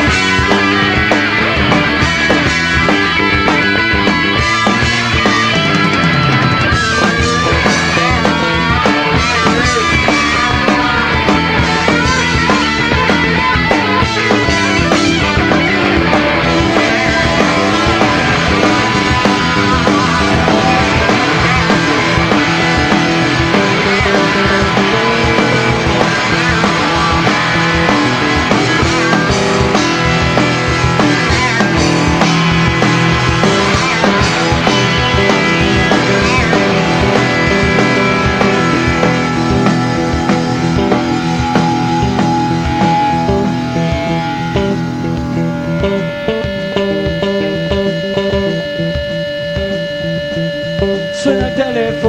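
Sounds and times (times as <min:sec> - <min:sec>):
drums keeping steady beat: 0:00.0 - 0:52.0
electric guitars: 0:00.0 - 0:52.0
punk rock band playing: 0:00.0 - 0:52.0.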